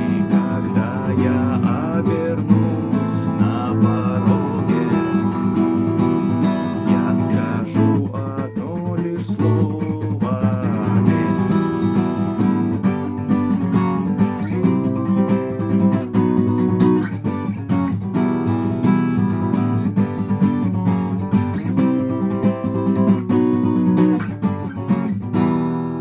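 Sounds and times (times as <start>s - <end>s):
acoustic guitar playing chords: 0.0s - 26.0s.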